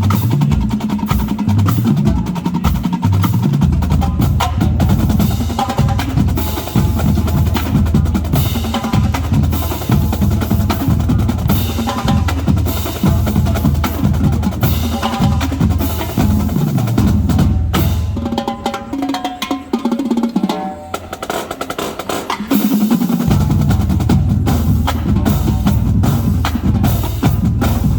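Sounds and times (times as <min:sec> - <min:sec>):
bass drums: 0:00.0 - 0:18.8, 0:22.0 - 0:27.9
snare drum strokes and rolls: 0:00.0 - 0:27.9.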